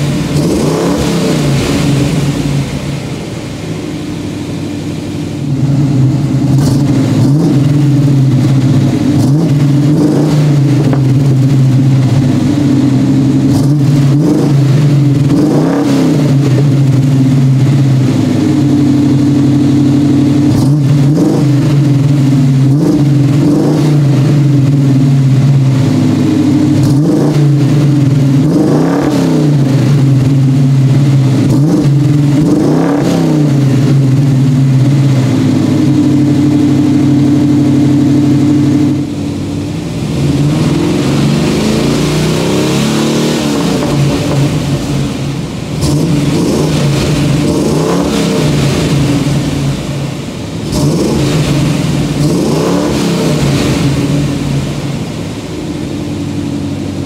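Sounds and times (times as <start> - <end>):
car engine idling: 0.0 - 57.0
engine revving: 0.0 - 57.0.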